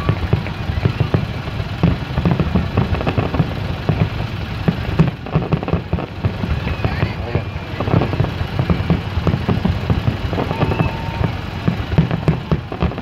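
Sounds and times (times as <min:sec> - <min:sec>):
fireworks popping and crackling: 0:00.0 - 0:13.0
steady low rumble: 0:00.0 - 0:13.0.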